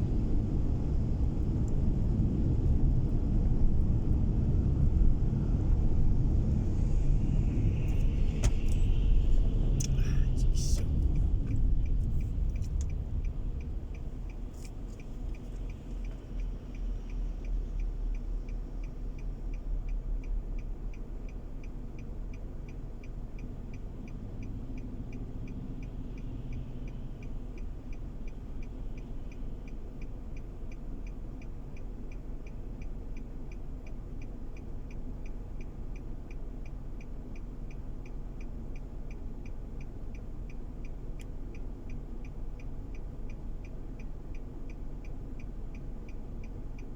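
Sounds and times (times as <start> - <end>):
car engine hum and road noise: 0.0 - 46.9
turn signal clicking: 7.9 - 46.9.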